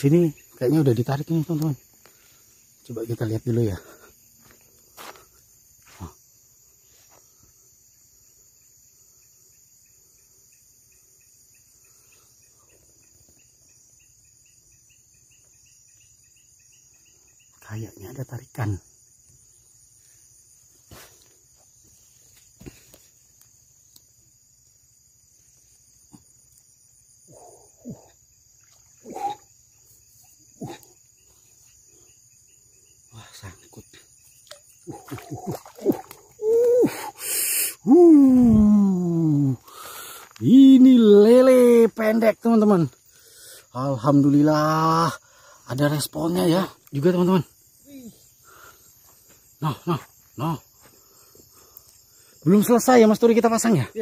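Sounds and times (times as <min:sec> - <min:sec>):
crickets and night insects chirping: 0:00.0 - 0:54.0.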